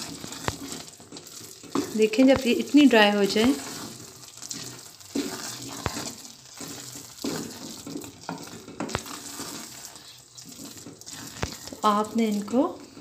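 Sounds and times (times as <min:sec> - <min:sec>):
milk sizzling: 0:00.0 - 0:13.0
wooden spoon stirring in pan: 0:00.0 - 0:13.0.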